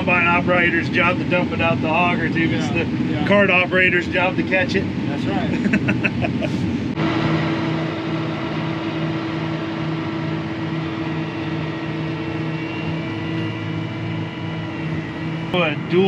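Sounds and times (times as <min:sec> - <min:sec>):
steady higher tone: 0:00.0 - 0:05.4, 0:06.7 - 0:16.0
farm machinery drone: 0:00.0 - 0:16.0.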